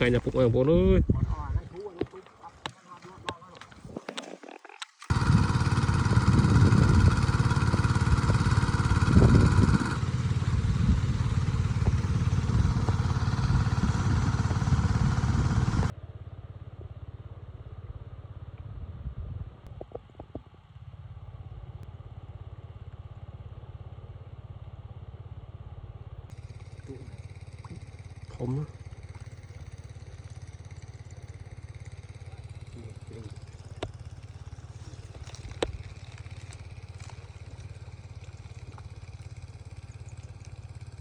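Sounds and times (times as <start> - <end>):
small engine running: 0.0 - 19.1, 19.7 - 41.0.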